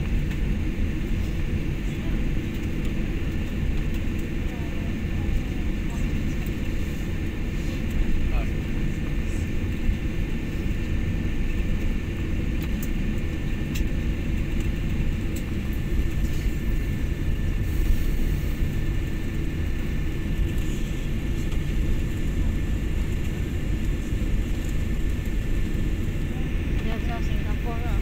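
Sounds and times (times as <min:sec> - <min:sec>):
jet engines idling rumble: 0:00.0 - 0:28.0.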